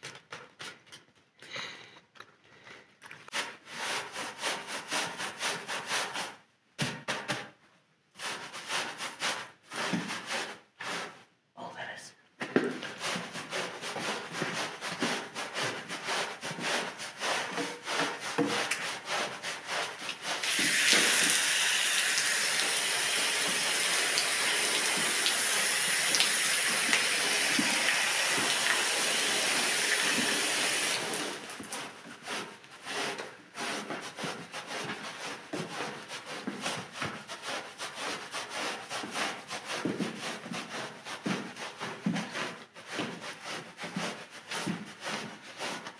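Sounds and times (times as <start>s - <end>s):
push broom scrubbing wet rug: 3.3s - 6.4s, 8.2s - 11.2s, 12.6s - 45.9s.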